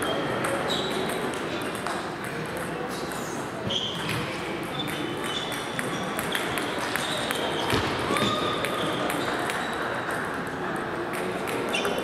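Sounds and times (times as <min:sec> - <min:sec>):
murmur of voices: 0:00.0 - 0:12.0
table tennis balls clicking: 0:00.1 - 0:03.4, 0:04.0 - 0:12.0.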